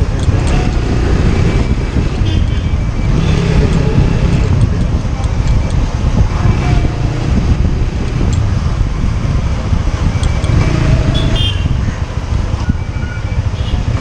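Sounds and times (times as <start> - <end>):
motorcycle engine and wind rumble: 0.0 - 14.0.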